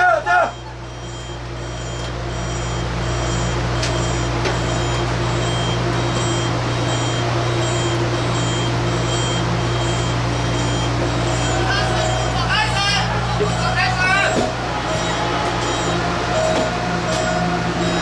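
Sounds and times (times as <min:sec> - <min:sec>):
low electrical hum: 0:00.0 - 0:18.0
short electronic beeps: 0:00.3 - 0:18.0.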